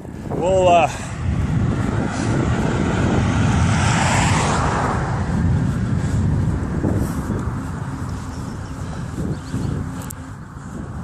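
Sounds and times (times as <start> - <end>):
vehicle passing: 0.0 - 11.0
wind rumble on microphone: 0.0 - 11.0.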